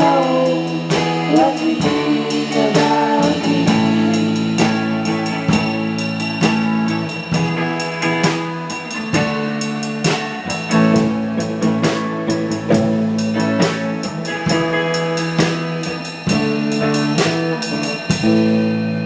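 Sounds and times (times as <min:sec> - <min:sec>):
drum kit beat: 0:00.0 - 0:19.0
electric guitar chords: 0:00.0 - 0:19.0.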